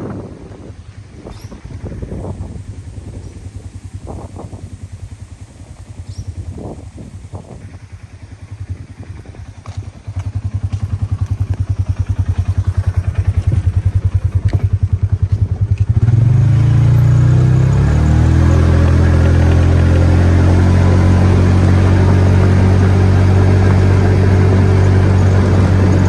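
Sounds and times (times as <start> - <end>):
steady low drone: 0.0 - 26.0
vehicle engine running: 0.0 - 26.0.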